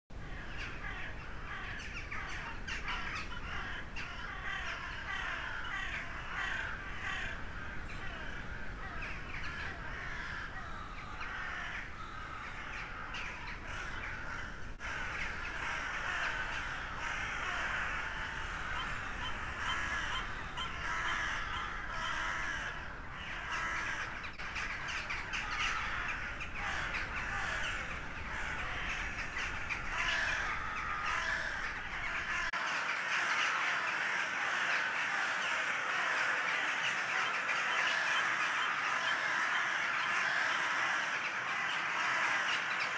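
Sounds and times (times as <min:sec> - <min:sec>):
crows cawing: 0:00.2 - 0:42.9.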